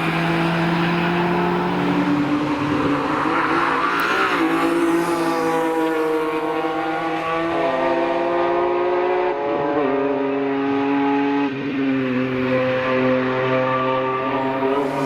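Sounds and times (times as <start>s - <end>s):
car engine accelerating and upshifting: 0.0s - 15.0s.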